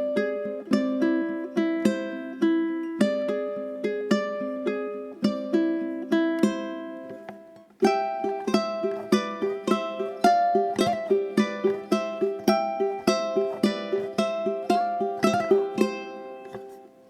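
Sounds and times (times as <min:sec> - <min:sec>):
plucked strings music: 0:00.0 - 0:17.0.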